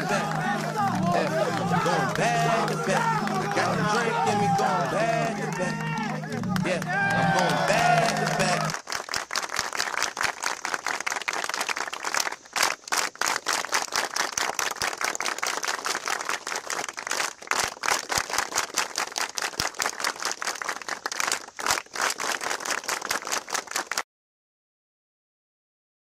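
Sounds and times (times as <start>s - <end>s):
crowd clapping in unison: 0.0s - 24.0s.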